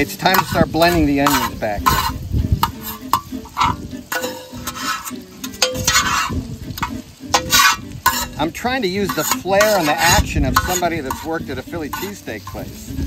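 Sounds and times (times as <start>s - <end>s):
meat sizzling: 0.0s - 13.0s
metal spatulas scraping griddle: 0.0s - 13.0s.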